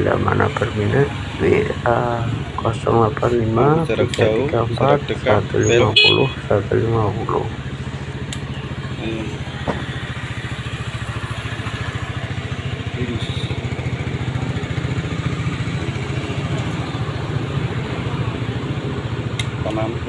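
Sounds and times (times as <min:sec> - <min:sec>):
scooter engine idling: 0:00.0 - 0:20.0.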